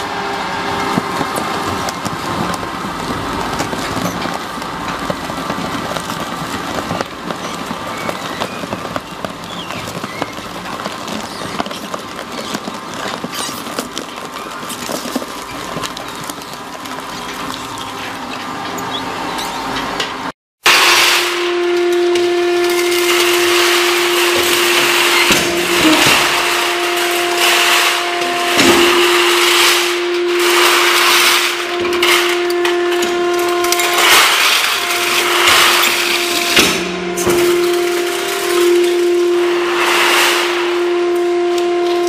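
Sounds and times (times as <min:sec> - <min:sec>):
crusher motor whine: 0:00.0 - 0:42.0
rough grinding and crunching: 0:00.1 - 0:20.3, 0:22.1 - 0:42.0.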